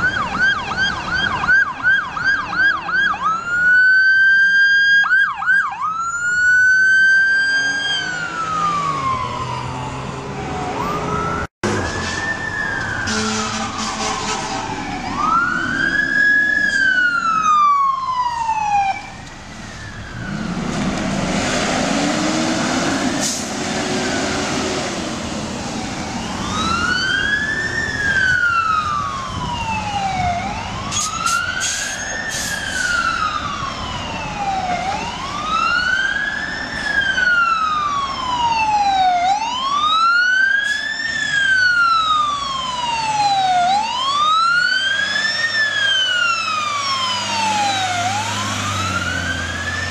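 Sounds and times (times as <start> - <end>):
fire engine siren wailing: 0.0 - 49.9.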